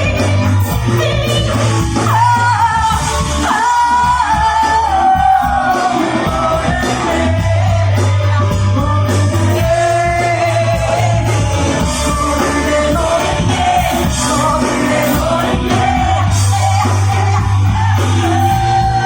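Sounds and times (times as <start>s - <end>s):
person singing: 0.0s - 19.0s
rock band playing: 0.0s - 19.0s.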